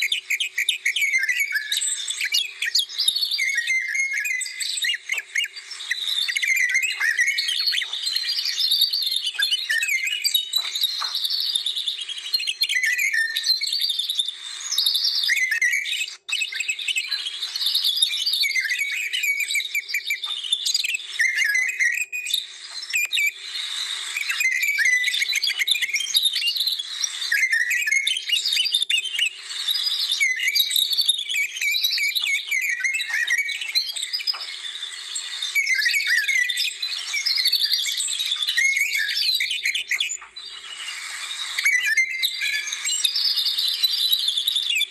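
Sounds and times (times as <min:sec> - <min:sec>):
birds chirping chorus: 0:00.0 - 0:44.9.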